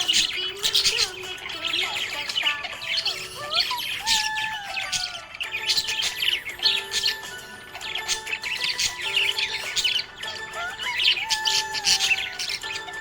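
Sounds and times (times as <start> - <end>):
budgerigars chirping and chattering: 0.0 - 13.0
music playing: 0.0 - 13.0.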